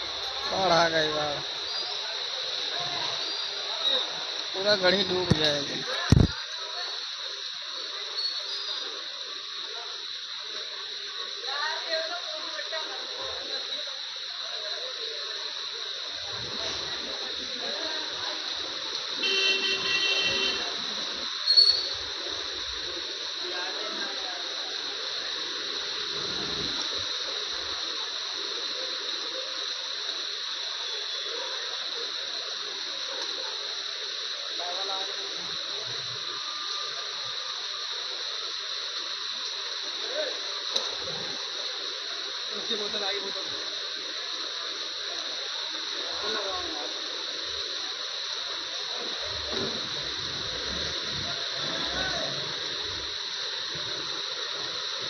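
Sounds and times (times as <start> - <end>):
heavy rain pouring: 0.0 - 55.0
running floodwater: 0.0 - 55.0.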